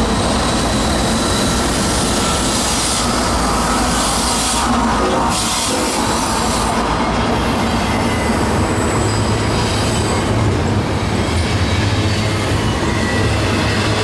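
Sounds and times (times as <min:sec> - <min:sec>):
train wheels rumbling on rail: 0:00.0 - 0:14.0
high wheel squeal: 0:00.2 - 0:10.4, 0:11.1 - 0:14.0.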